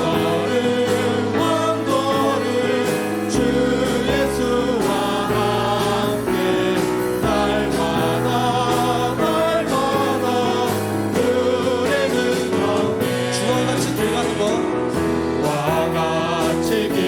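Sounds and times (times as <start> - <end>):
group singing praise song: 0.0 - 17.0.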